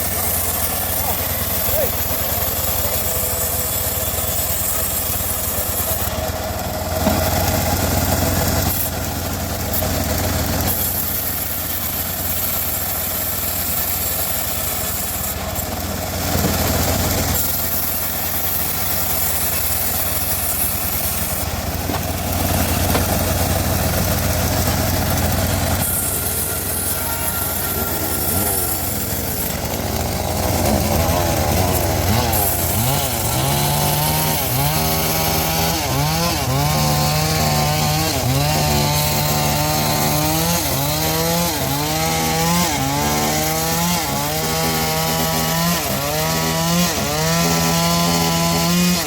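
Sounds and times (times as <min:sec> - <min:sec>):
sawmill engine humming: 0:00.0 - 0:49.0.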